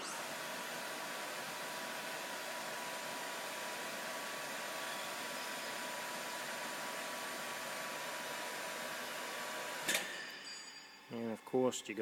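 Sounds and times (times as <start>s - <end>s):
electric crane hoists whirring: 0.0s - 11.1s.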